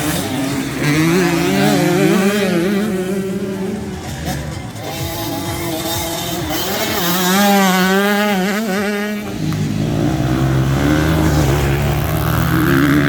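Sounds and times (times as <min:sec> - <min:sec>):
lower-pitched bike engines: 0:00.0 - 0:13.0
motocross bike engine revving high: 0:00.0 - 0:13.0.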